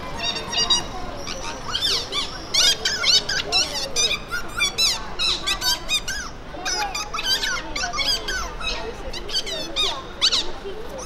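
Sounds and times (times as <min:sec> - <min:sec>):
squeaky toy chirps and squeals: 0:00.2 - 0:10.5.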